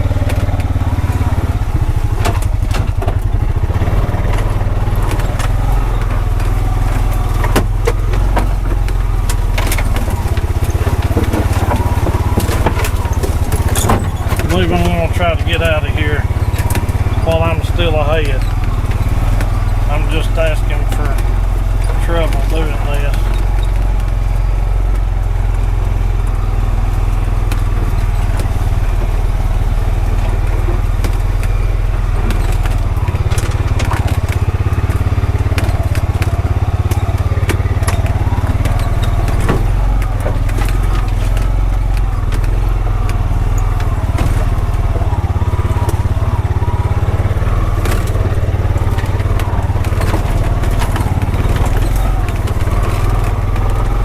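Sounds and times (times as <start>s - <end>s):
engine running over rough ground: 0.0s - 54.0s
scattered clicks and knocks: 0.0s - 54.0s.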